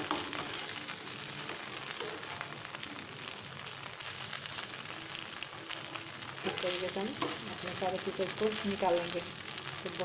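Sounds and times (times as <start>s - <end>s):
oil sizzling in frying pan: 0.0s - 10.0s.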